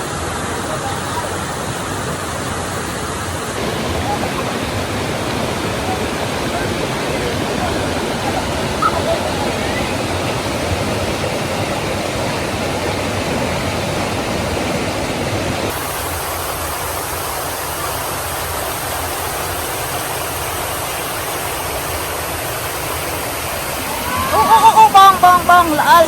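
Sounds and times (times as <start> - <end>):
waterfall rushing water: 0.0 - 26.0.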